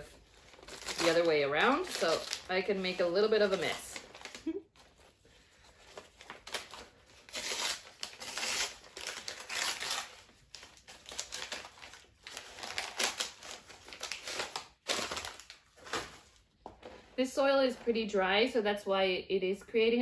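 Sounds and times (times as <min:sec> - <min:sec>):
paper wrapping crinkling: 0:00.0 - 0:16.9.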